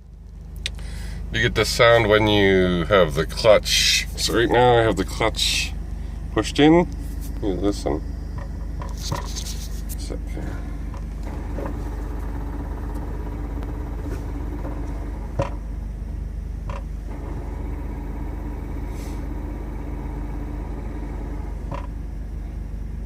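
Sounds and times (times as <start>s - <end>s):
car engine idling: 0.0s - 23.0s
transmission hum: 0.0s - 23.0s.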